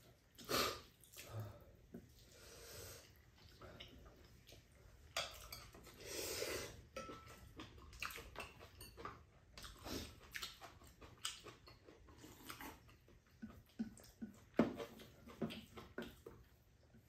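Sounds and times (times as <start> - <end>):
noodles slurped and chewed: 0.0 - 17.0.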